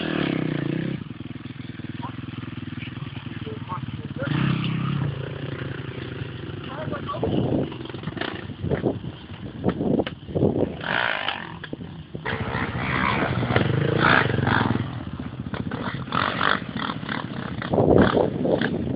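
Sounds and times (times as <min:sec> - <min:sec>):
off-road motorcycles revving: 0:00.0 - 0:18.9.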